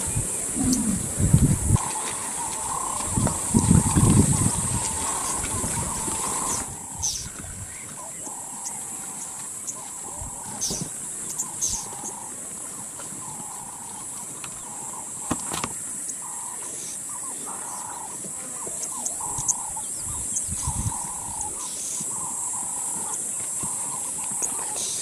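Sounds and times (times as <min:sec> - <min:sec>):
high insect drone: 0:00.0 - 0:12.6, 0:13.2 - 0:25.0.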